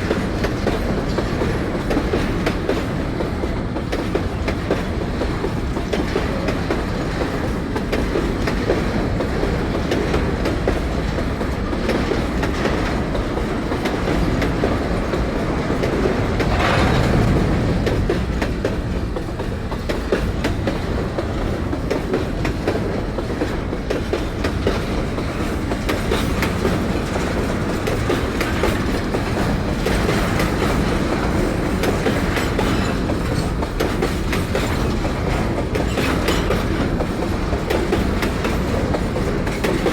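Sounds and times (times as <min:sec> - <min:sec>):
freight train wheels clacking: 0:00.0 - 0:39.9.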